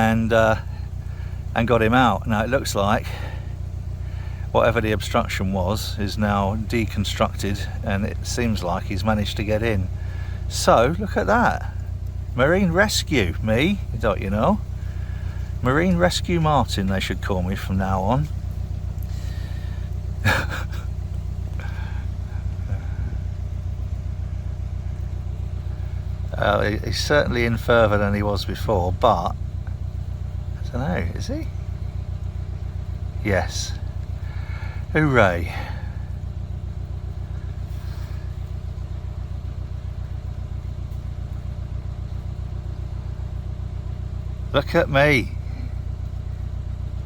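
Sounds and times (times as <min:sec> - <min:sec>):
boat engine idling: 0:00.0 - 0:47.0.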